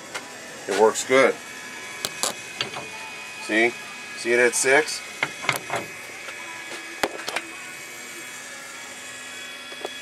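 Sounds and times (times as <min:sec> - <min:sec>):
electric gear motor humming: 0:00.0 - 0:10.0.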